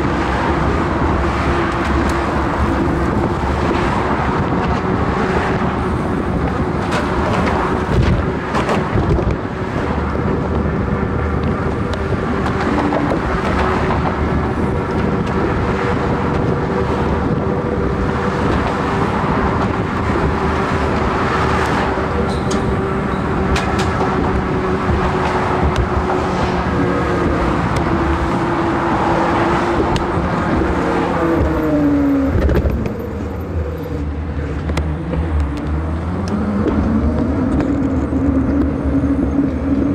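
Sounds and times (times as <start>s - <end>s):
cars and vans driving past: 0.0s - 39.9s
wind rushing over microphone: 0.0s - 39.9s.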